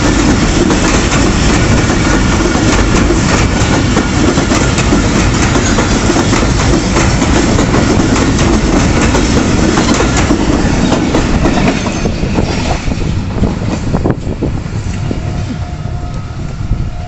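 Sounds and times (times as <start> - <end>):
train wheels clattering over rail joints: 0.0 - 14.2.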